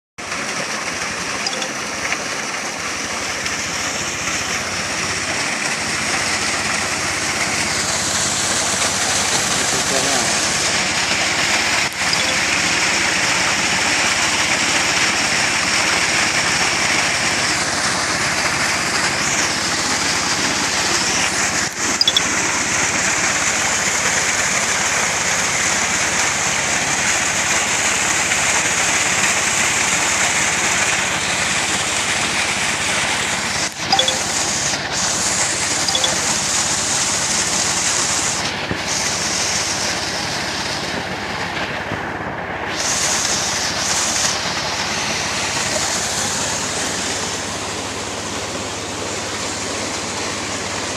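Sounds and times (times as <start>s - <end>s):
rush of sand and water: 0.2s - 50.9s.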